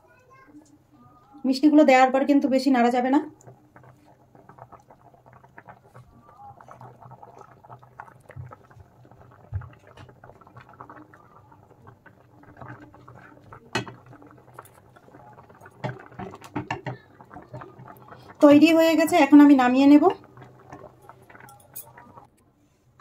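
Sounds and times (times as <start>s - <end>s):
milk simmering with bubbles popping: 1.2s - 22.4s.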